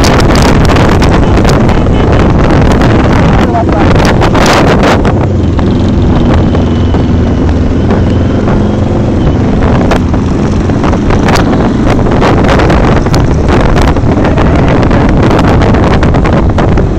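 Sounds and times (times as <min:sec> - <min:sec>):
motorcycle engine running: 0:00.0 - 0:16.9
wind buffeting microphone: 0:00.0 - 0:16.9.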